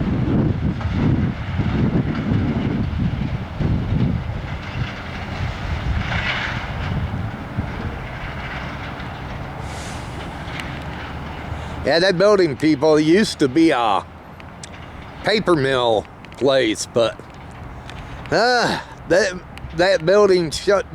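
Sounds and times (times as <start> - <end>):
freight train rolling past: 0.4 - 20.9.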